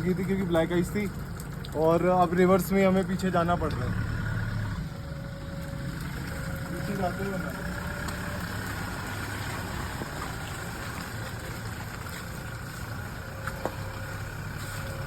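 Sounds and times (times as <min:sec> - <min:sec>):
diesel engine running at low revs: 0:00.0 - 0:15.0.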